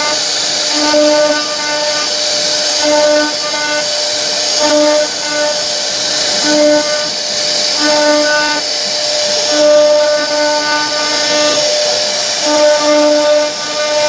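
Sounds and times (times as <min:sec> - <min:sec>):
machine pitched hum: 0:00.0 - 0:14.0
router spindle cutting wood: 0:00.0 - 0:14.0.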